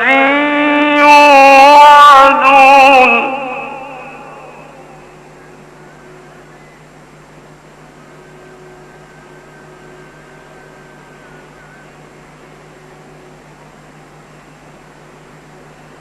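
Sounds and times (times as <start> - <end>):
recording hiss and hum: 0.0 - 16.0
faint wavering tone: 2.6 - 16.0.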